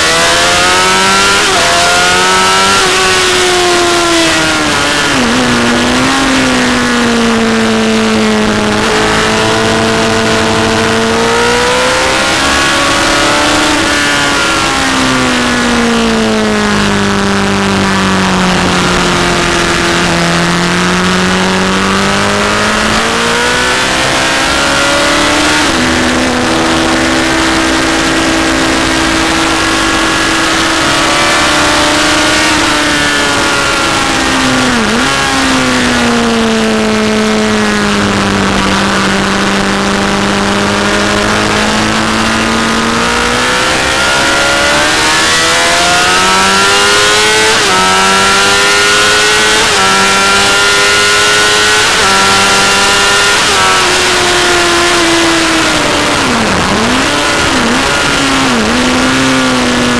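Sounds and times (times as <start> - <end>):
motorcycle engine at speed: 0.0 - 59.9
heavy wind noise: 2.8 - 59.9.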